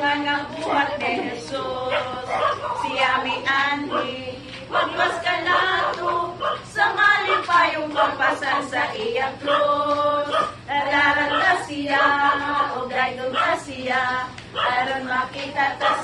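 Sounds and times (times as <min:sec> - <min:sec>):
women and girls singing: 0:00.0 - 0:16.0.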